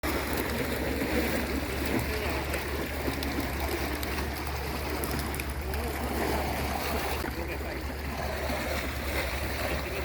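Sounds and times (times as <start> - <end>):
sea water rushing: 0.0 - 10.0.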